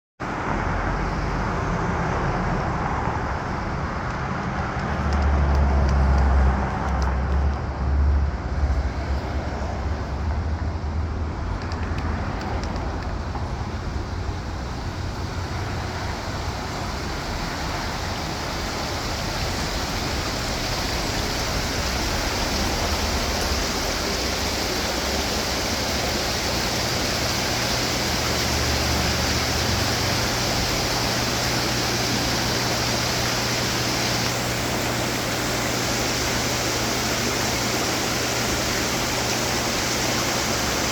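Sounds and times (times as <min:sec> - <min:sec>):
water fountains splashing: 0:00.3 - 0:07.6, 0:08.4 - 0:40.9.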